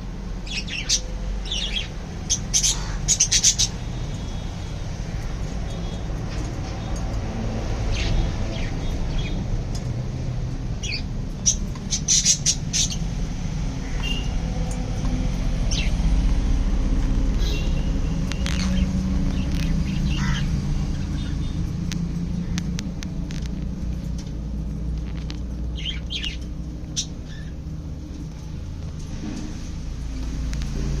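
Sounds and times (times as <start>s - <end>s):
birds chirping and squawking: 0.4s - 9.9s, 10.7s - 31.0s.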